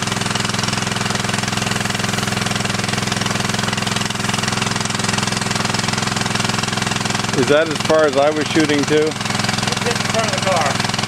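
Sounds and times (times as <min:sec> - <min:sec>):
pump engine running: 0:00.0 - 0:11.0
water pumping through hose: 0:00.0 - 0:11.0.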